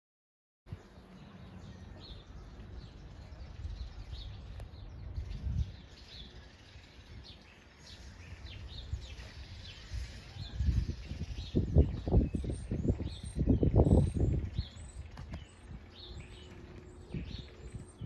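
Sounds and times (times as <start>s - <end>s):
small birds chirping: 0.7s - 18.0s.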